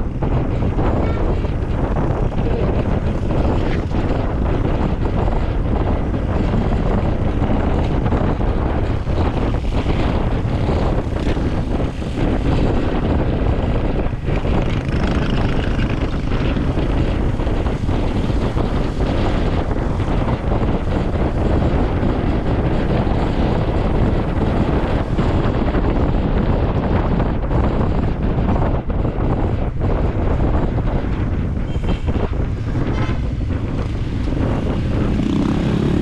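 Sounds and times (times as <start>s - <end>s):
scooter engine and road noise: 0.0s - 36.0s
wind rushing over microphone: 0.0s - 36.0s.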